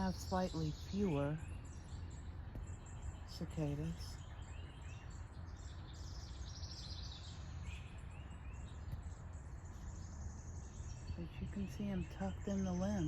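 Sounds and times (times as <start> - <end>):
bird trill: 0.0 - 13.0
birds chirping: 0.0 - 13.0.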